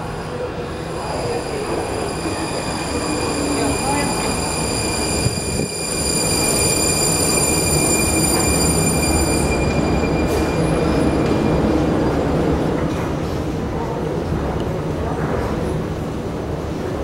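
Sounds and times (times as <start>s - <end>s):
metro train rumble: 0.0s - 17.0s.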